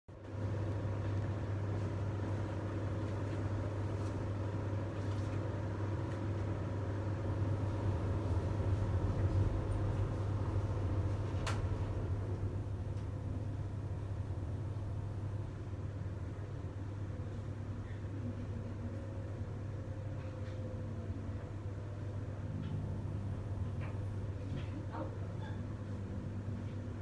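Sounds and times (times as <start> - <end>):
low mechanical hum: 0.1 - 27.0.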